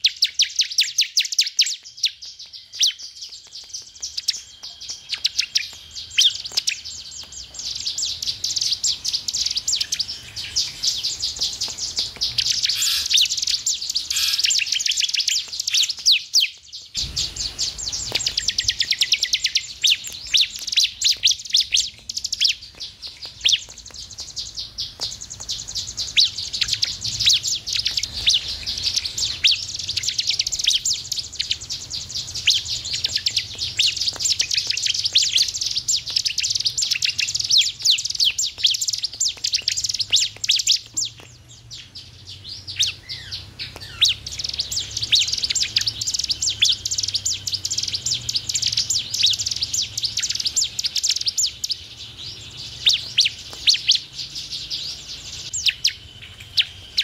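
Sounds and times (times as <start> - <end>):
bird chattering trills: 0.0 - 57.0.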